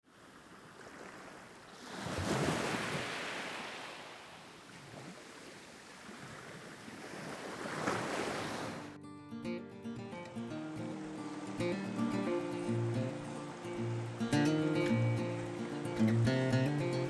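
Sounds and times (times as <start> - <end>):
river water rushing: 0.8 - 9.0, 10.3 - 17.0.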